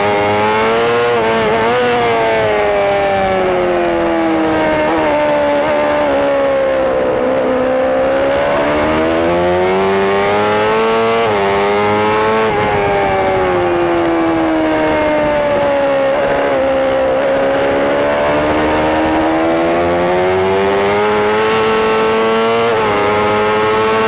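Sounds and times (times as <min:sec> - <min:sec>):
superbike engine at racing speed: 0:00.0 - 0:24.0.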